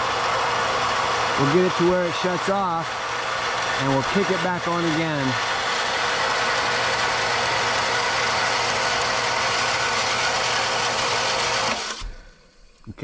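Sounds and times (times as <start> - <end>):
well pump rattling hum: 0.0 - 13.0.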